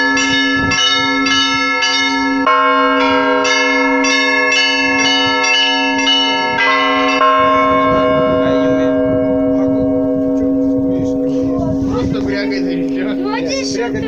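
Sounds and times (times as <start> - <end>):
low hum of large bell: 0.0 - 14.0
small church bells ringing: 0.0 - 14.0.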